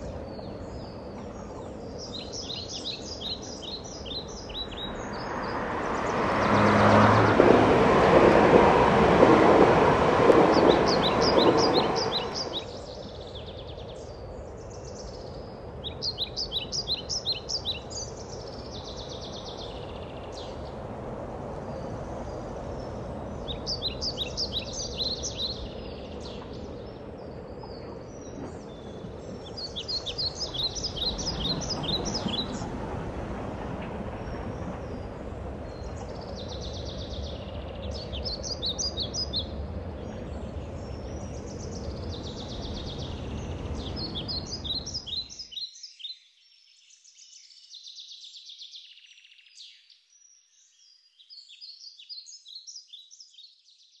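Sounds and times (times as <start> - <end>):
birds chirping: 0.0 - 7.0, 8.4 - 20.9, 21.7 - 46.1.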